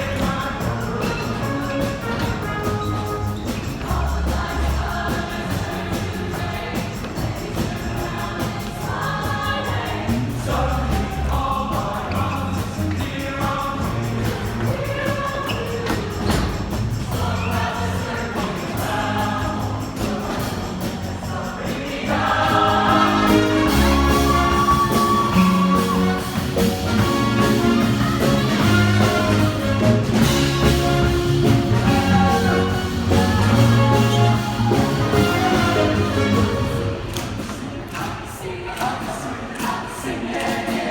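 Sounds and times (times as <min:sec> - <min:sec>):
choir singing with accompaniment: 0:00.0 - 0:40.9.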